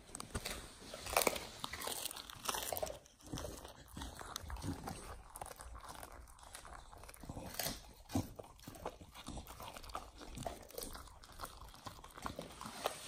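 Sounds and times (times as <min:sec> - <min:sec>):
dog gnawing and crunching chew: 0:00.0 - 0:13.0.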